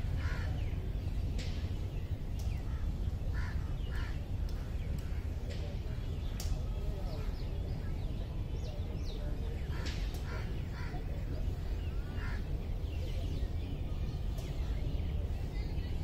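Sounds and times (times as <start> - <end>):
birds chirping: 0.0 - 16.0
steady low rumble: 0.0 - 16.0.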